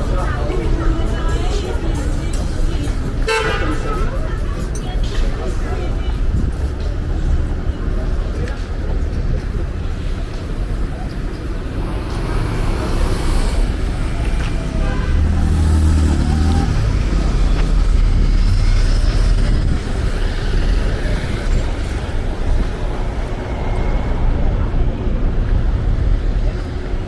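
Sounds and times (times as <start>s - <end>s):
cars passing: 0.0s - 27.0s
vehicle engine: 0.0s - 27.0s.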